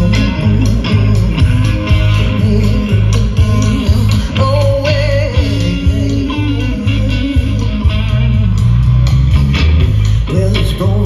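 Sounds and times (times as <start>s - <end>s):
bass guitar: 0.0s - 11.0s
drums: 0.0s - 11.0s
electric guitar: 0.0s - 11.0s.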